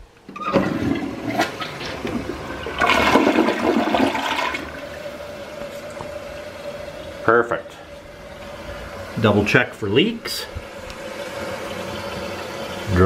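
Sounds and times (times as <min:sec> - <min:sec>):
toilet water rushing and swirling: 0:00.3 - 0:13.0.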